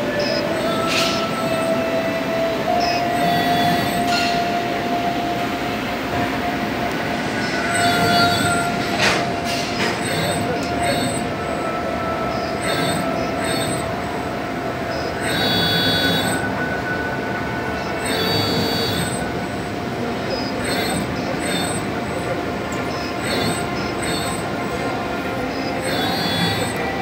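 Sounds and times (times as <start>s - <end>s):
machine chirps: 0.0s - 27.0s
servo motors whining: 0.0s - 27.0s
steady machine hum: 0.0s - 27.0s.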